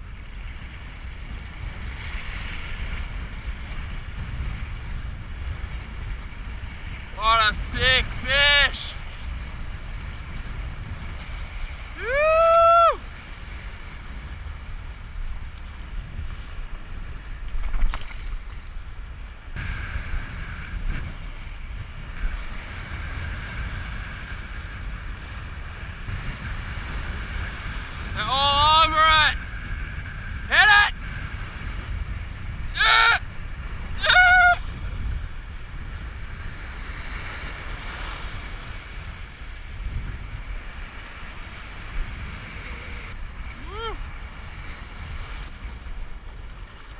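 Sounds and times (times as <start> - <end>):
waves washing: 0.0 - 46.9
wind buffeting microphone: 0.0 - 46.9.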